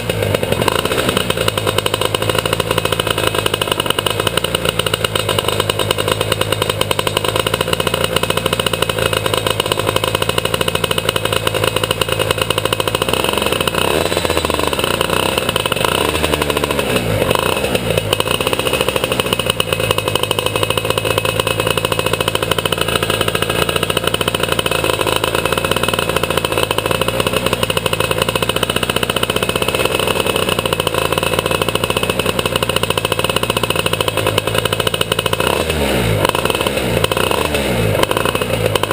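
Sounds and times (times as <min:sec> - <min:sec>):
two-stroke kart engine revving: 0:00.0 - 0:38.9.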